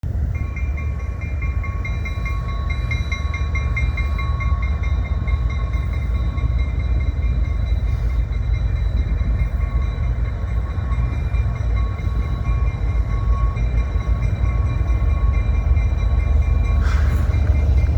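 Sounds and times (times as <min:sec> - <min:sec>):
freight train rumbling past: 0:00.0 - 0:17.9
high-pitched ringing tones: 0:00.2 - 0:17.9.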